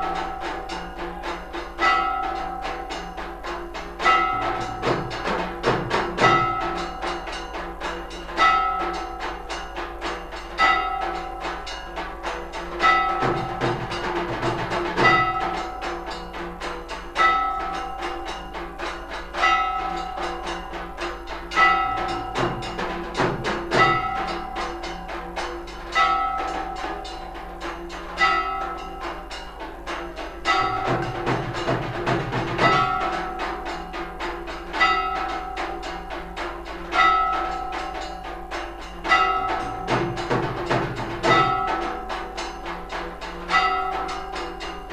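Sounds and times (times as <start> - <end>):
drum and metal percussion: 0.0 - 44.9
heavy stroke with bell-like ringing: 0.0 - 44.9.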